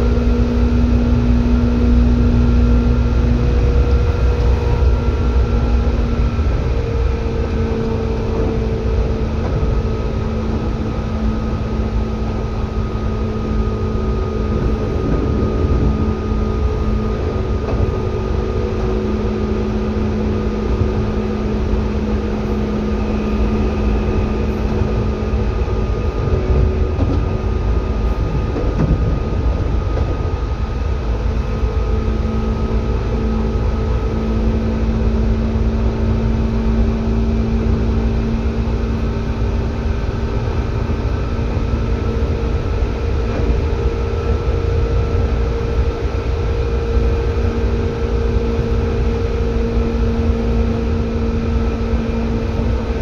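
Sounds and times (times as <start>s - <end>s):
electric train running: 0.0s - 53.0s
steady hum tones: 0.0s - 53.0s.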